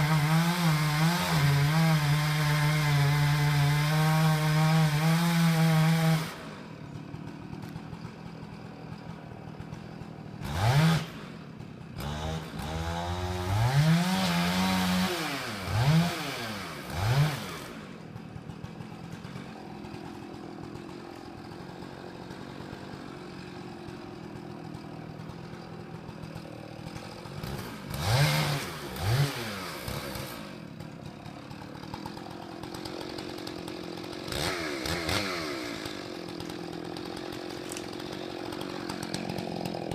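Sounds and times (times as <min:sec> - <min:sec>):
chainsaw idling: 0:00.0 - 0:39.9
chainsaw throttle revving: 0:00.0 - 0:39.9.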